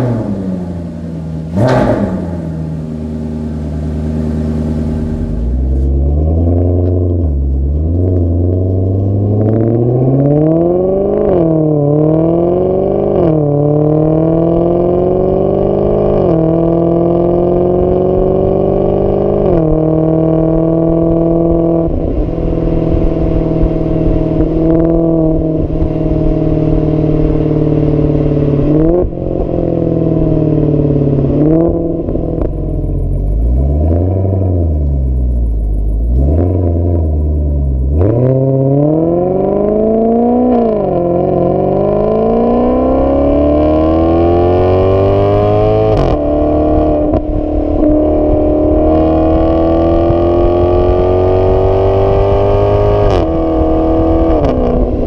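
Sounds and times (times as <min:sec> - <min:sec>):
car exhaust revving: 0:00.0 - 0:55.0.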